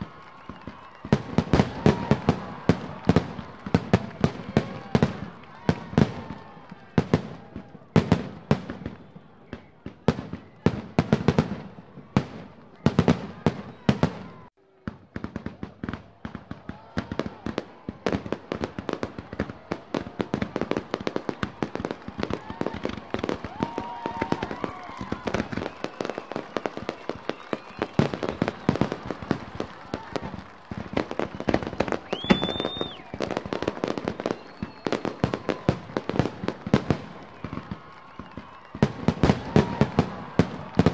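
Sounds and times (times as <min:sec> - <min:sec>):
fireworks bangs with crackle: 0:00.0 - 0:40.9.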